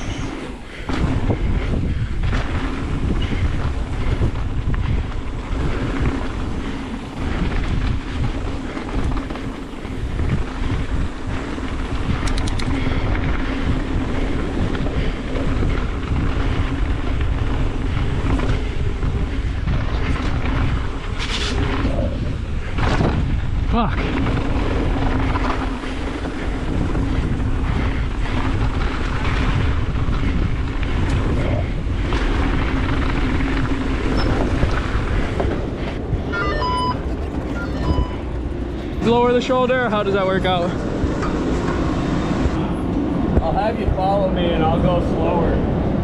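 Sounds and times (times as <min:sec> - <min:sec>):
mountain bike rumbling and rattling: 0:00.0 - 0:46.0
wind buffeting microphone: 0:00.0 - 0:46.0.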